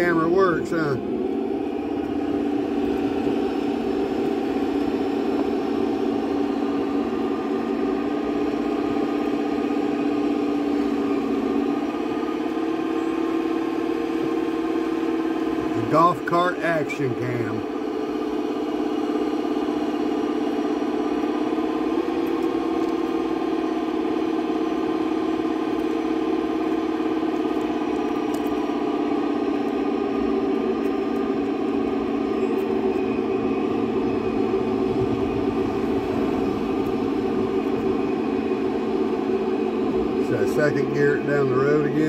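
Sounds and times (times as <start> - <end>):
golf cart motor humming: 0.0 - 42.0.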